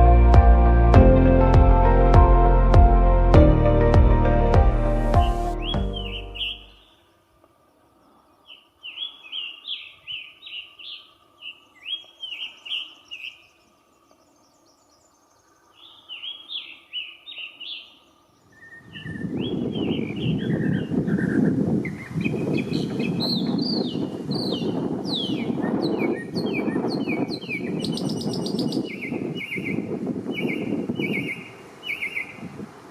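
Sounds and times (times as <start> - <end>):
bird chirping: 5.2 - 7.2, 8.0 - 32.4.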